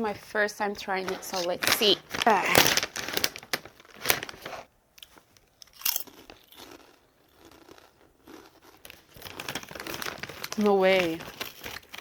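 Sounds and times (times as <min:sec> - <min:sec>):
potato chips crunching: 0:01.3 - 0:12.0.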